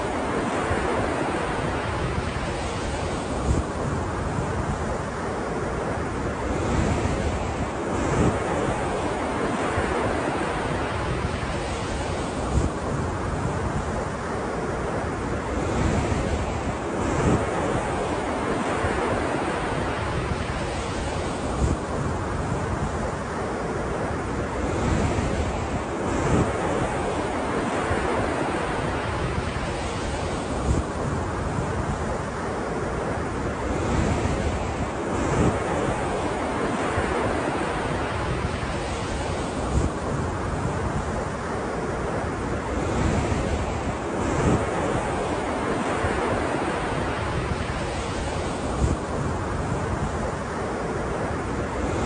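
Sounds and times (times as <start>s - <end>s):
ocean surf washing: 0.0s - 52.0s
wind rumble on microphone: 0.0s - 52.0s.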